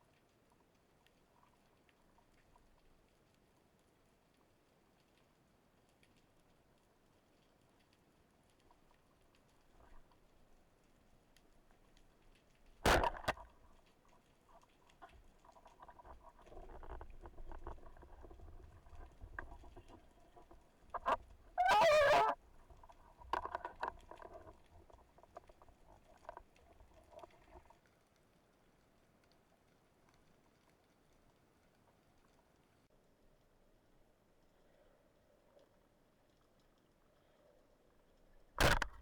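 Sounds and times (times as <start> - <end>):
underwater clicks and crackles: 0.0 - 33.5, 34.3 - 39.0.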